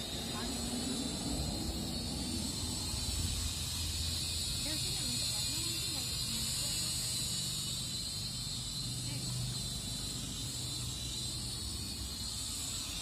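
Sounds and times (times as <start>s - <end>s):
drone propellers whirring: 0.0s - 13.0s.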